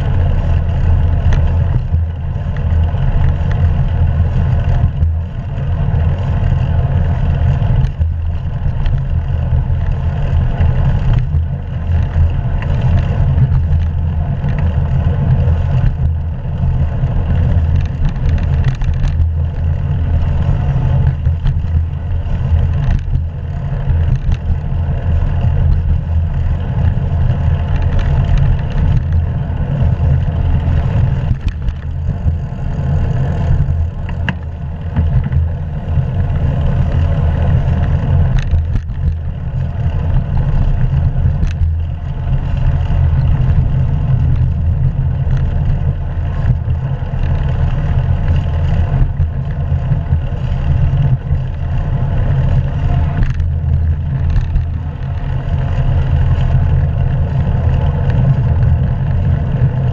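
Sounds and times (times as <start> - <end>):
road rumble: 0.0 - 59.9.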